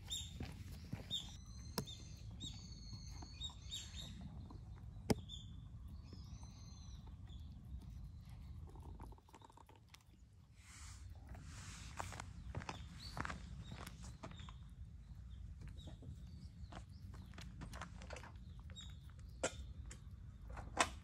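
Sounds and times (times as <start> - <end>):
low background rumble: 0.0 - 21.0
small birds chirping: 0.0 - 21.0.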